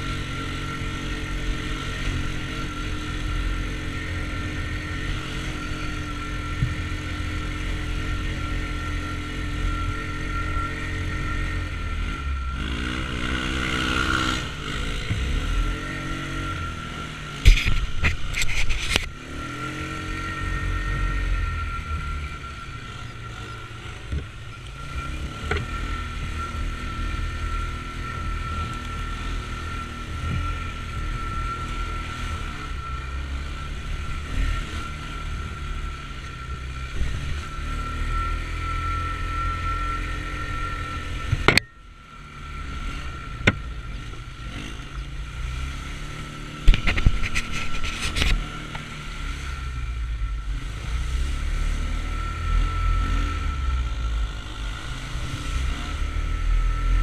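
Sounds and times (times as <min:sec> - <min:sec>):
utility vehicle engine revving: 0:00.0 - 0:57.0.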